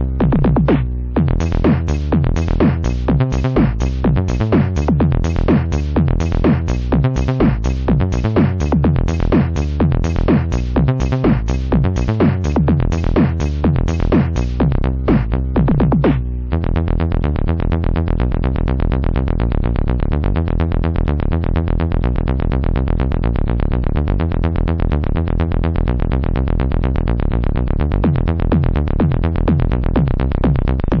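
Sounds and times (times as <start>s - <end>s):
electronic dance music: 0.0s - 31.0s.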